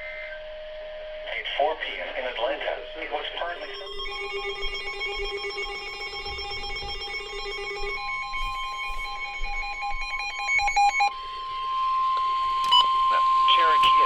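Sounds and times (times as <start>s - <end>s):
steady high alarm tone: 0.0s - 14.0s
electronic data tones: 2.1s - 14.0s.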